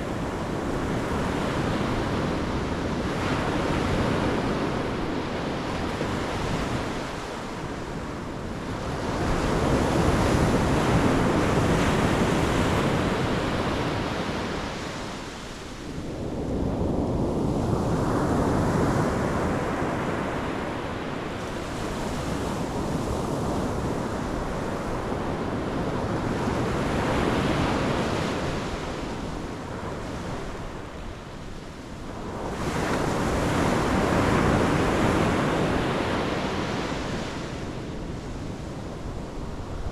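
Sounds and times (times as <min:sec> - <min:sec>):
ocean waves breaking on shore: 0:00.0 - 0:39.9
wind rumble on microphone: 0:00.0 - 0:39.9.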